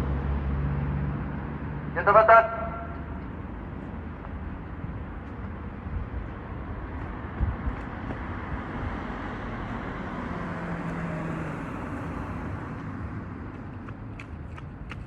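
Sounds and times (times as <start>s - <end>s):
vehicle passing by: 0.0s - 3.2s, 6.1s - 15.0s.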